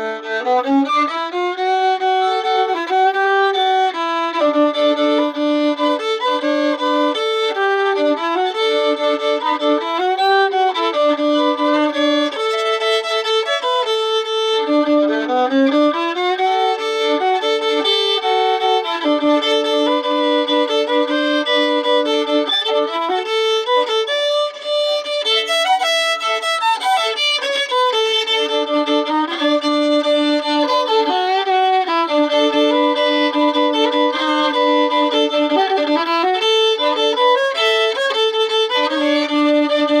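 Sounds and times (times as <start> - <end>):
fiddle played bowed: 0.0 - 40.0.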